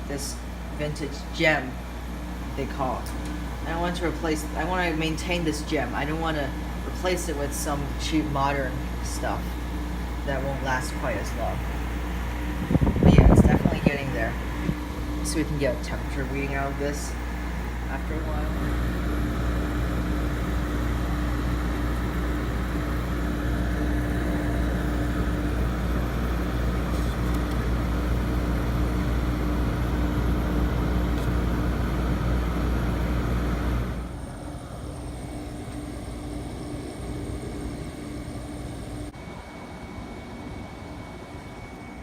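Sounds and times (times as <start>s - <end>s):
air conditioner humming: 0.0s - 42.0s
quiet steady running sound: 0.0s - 42.0s.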